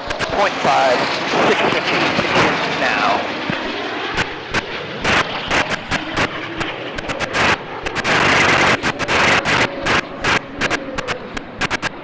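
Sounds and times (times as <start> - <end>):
sharp crackling pops: 0.0 - 0.5, 1.4 - 2.6, 3.4 - 12.0
jets roaring overhead: 0.0 - 12.0.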